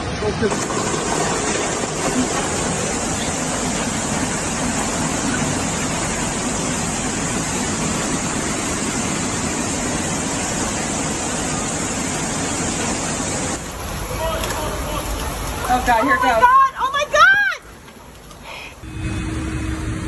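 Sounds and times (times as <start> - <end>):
loud rush of flood water: 0.0 - 19.4.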